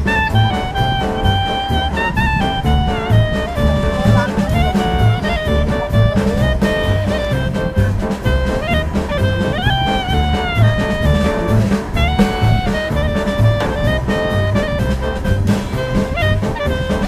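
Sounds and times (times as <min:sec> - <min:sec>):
jazzy instrumental music: 0:00.0 - 0:17.0.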